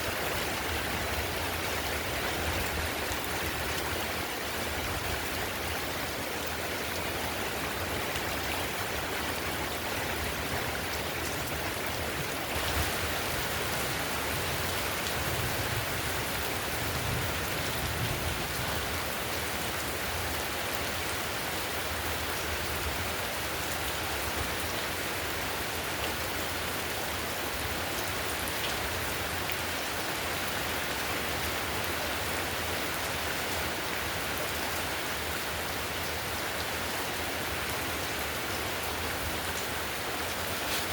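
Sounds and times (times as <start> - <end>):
heavy rain on a tiled roof: 0.0 - 40.9.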